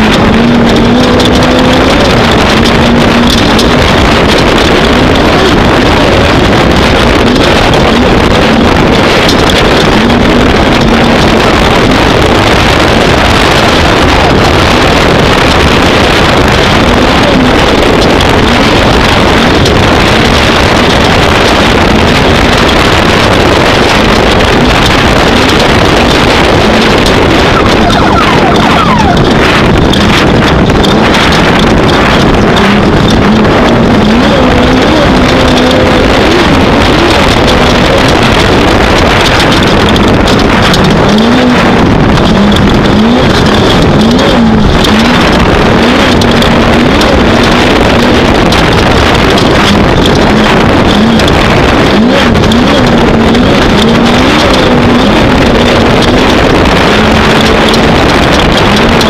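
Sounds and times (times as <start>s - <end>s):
race vehicle engine driving fast: 0.0s - 59.0s.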